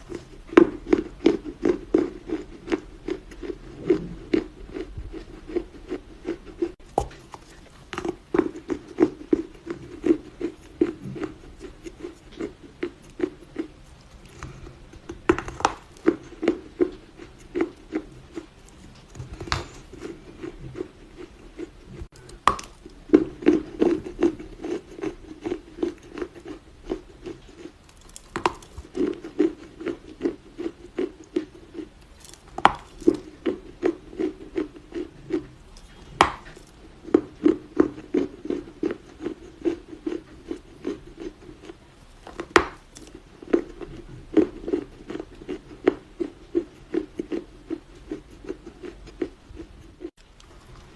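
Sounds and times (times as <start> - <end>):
clay being chewed: 0.0 - 50.9.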